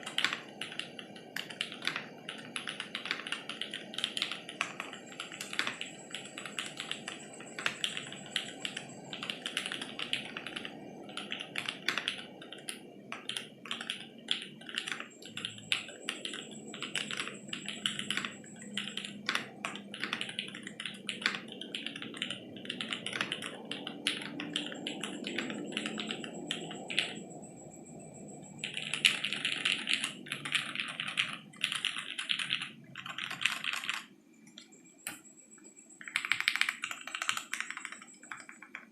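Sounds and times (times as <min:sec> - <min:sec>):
mechanical keyboard typing: 0:00.0 - 0:27.3, 0:28.6 - 0:35.3, 0:36.0 - 0:38.9.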